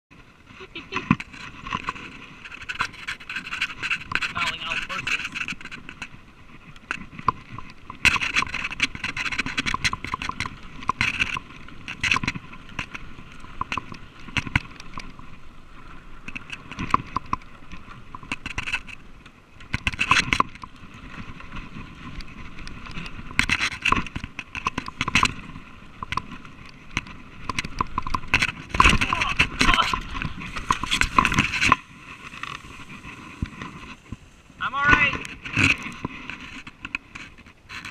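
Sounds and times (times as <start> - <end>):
bike rattling down rough trail: 0.1 - 37.9.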